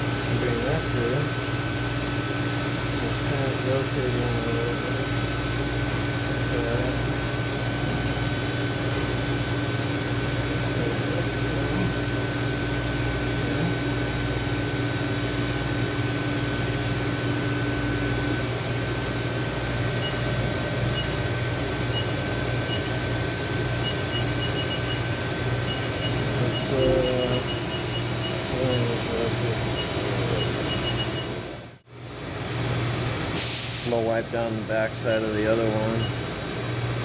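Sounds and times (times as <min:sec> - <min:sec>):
machine hum with rushing air: 0:00.0 - 0:37.0.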